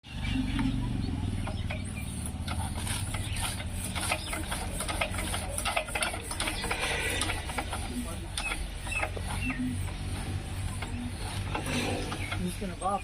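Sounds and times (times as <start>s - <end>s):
engine droning: 0.0s - 13.0s
mechanical clicks and clatter: 1.4s - 13.0s.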